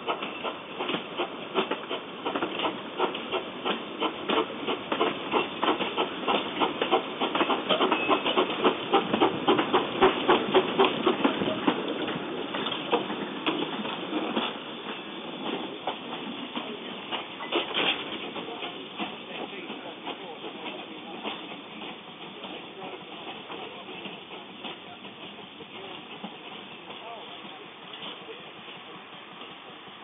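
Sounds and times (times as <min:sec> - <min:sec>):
rapid irregular clicking clatter: 0:00.0 - 0:28.4
steam locomotive hissing: 0:00.0 - 0:30.0.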